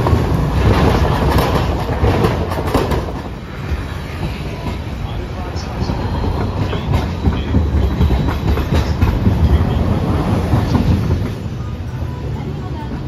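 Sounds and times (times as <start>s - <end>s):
tram rumbling past: 0.0s - 13.0s
wheels clattering on rails: 0.0s - 13.0s.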